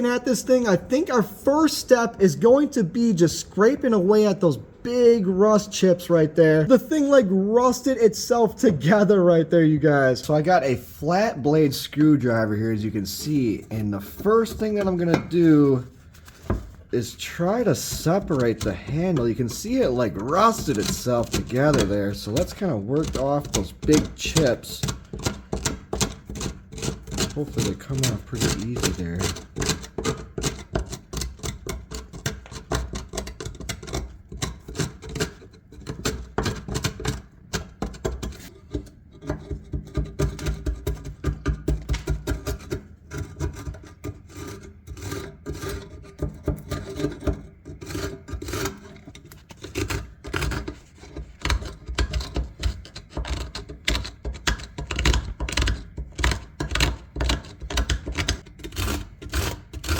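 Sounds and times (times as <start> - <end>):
screwdriver scraping rusty metal: 10.3 - 59.9.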